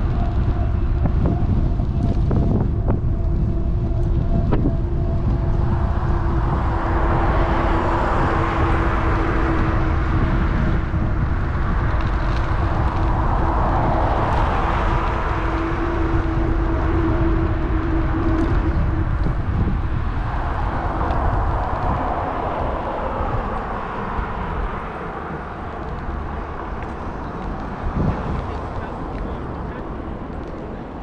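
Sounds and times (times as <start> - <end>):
road traffic: 0.0 - 31.0
wind buffeting microphone: 0.0 - 31.0.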